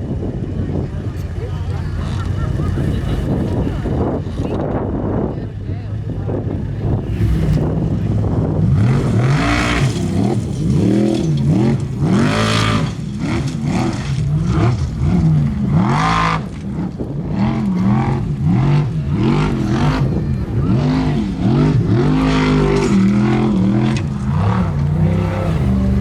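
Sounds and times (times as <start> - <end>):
race truck engine revving: 0.0 - 26.0.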